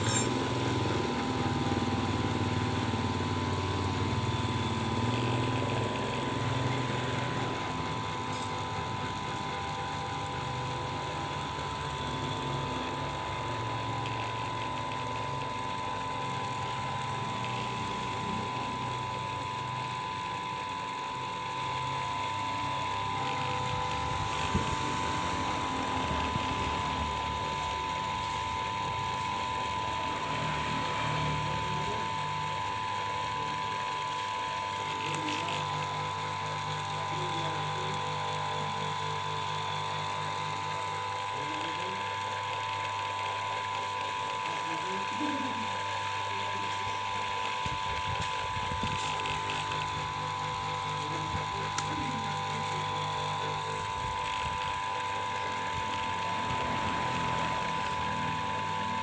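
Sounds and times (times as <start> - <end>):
lathe running with high whine: 0.0 - 59.0.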